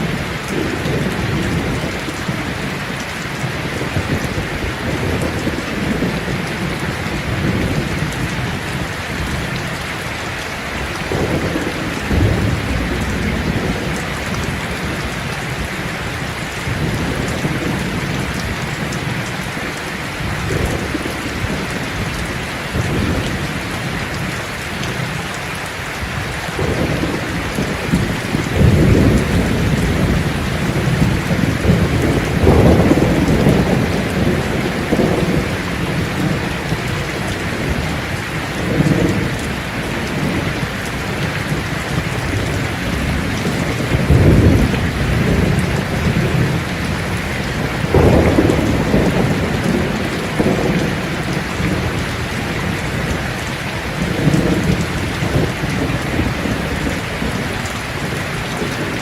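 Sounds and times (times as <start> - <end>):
low rolling thunder: 0.0 - 9.8, 10.8 - 25.2, 26.1 - 59.0
steady rain falling: 0.0 - 59.0.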